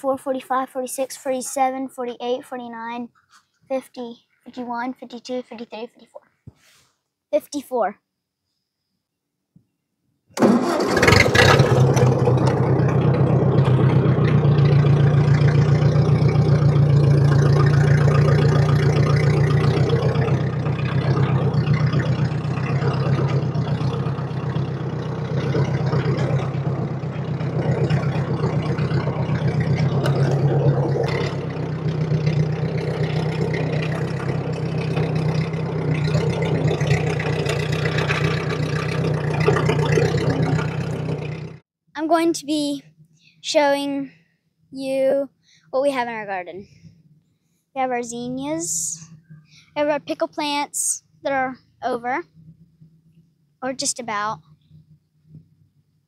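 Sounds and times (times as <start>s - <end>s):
tractor engine running: 10.4s - 44.1s, 44.8s - 56.0s.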